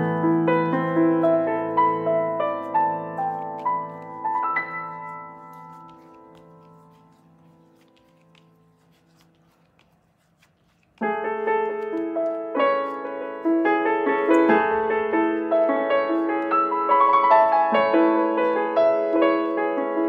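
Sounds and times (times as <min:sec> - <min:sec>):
piano music: 0:00.0 - 0:09.3, 0:11.0 - 0:20.0.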